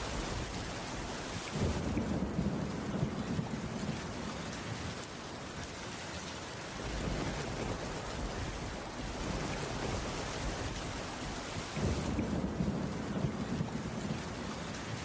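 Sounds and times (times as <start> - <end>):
distant thunder rumbling: 0.0 - 5.1, 6.8 - 15.0
rain on wooden roof: 0.0 - 15.0.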